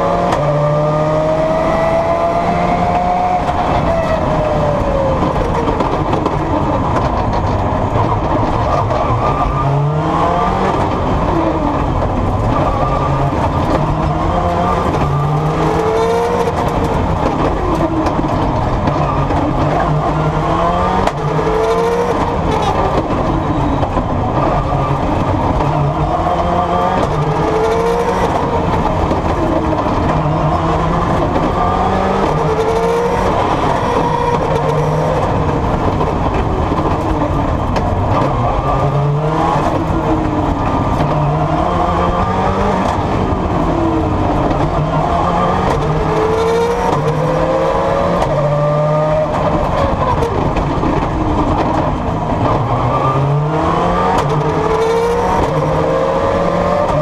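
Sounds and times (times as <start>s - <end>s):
car engine revving through gears: 0.0s - 57.0s
road and tyre noise: 0.0s - 57.0s.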